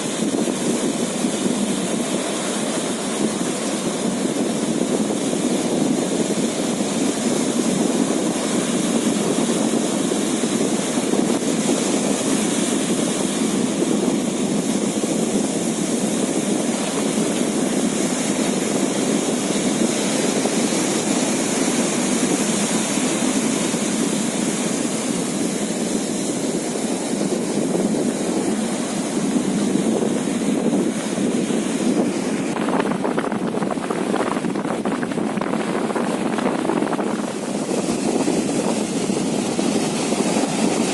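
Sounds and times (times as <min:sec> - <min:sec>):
boat engine droning: 0:00.0 - 0:40.9
water: 0:00.0 - 0:40.9
wind buffeting microphone: 0:00.0 - 0:40.9.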